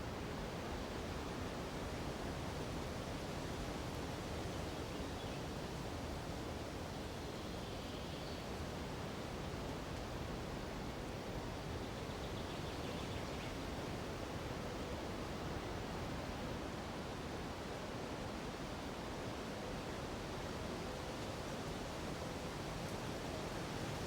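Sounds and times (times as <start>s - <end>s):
wind through treetops: 0.0s - 24.0s.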